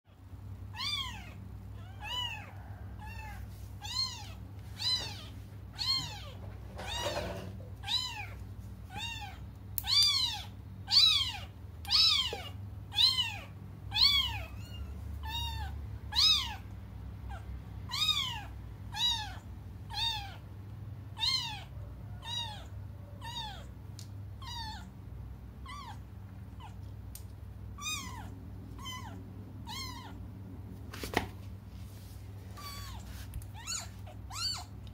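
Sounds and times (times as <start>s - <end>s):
kittens meowing: 0.7s - 20.4s, 21.2s - 23.8s, 24.4s - 25.0s, 25.6s - 26.8s, 27.7s - 30.3s, 32.6s - 34.8s.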